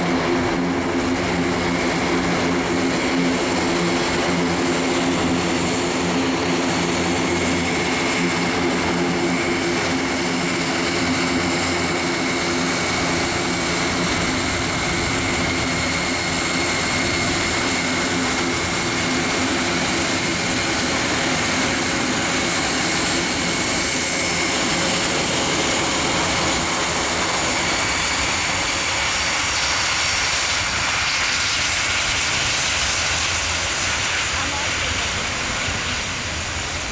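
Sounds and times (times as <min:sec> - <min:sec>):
turboprop engines with high whine: 0:00.0 - 0:36.9.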